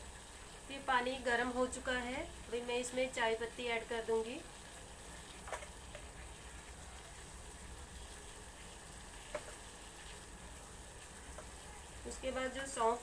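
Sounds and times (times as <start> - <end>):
water simmering with hiss: 0.0 - 13.0.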